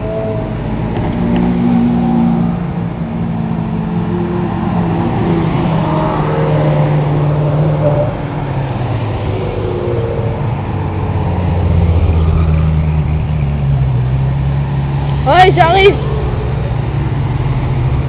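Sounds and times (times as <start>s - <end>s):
sports car engines revving: 0.0s - 18.0s.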